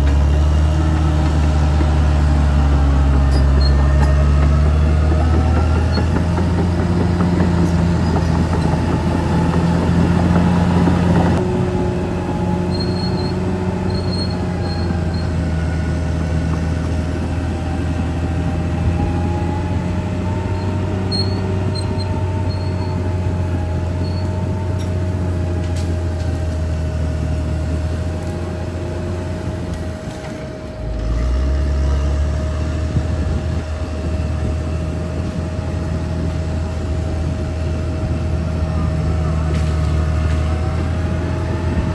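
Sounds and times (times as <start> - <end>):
bulldozer diesel engine whining: 0.0 - 41.9
steel tracks squeaking: 0.0 - 41.9.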